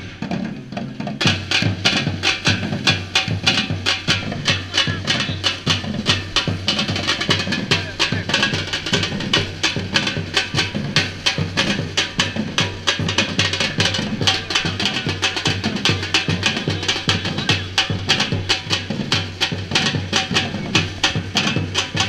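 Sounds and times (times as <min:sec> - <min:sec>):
deep bass drums: 0:00.0 - 0:22.0
snare and hand drum strikes: 0:00.0 - 0:22.0.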